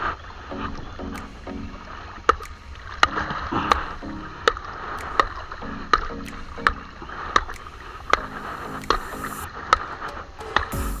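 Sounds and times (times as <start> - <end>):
background music with clicking beat: 0.5 - 11.0.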